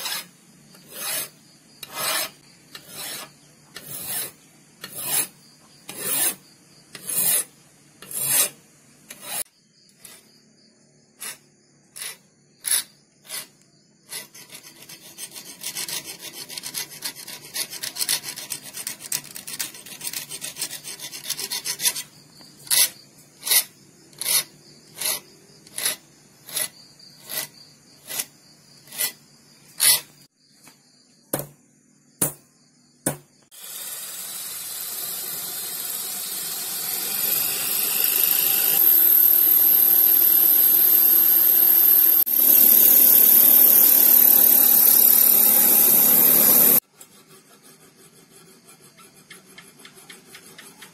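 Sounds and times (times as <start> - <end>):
file rasping on metal blade: 0.0 - 10.4, 11.2 - 30.2, 35.0 - 50.9.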